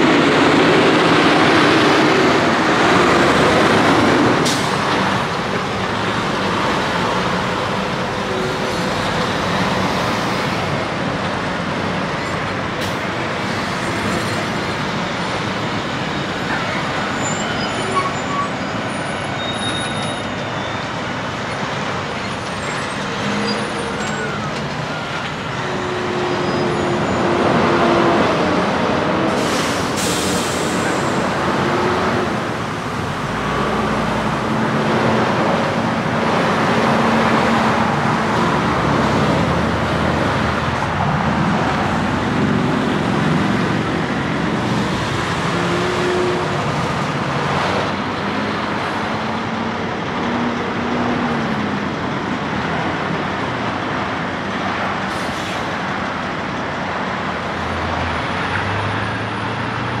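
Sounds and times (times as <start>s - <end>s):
diesel engines passing: 0.0s - 60.0s.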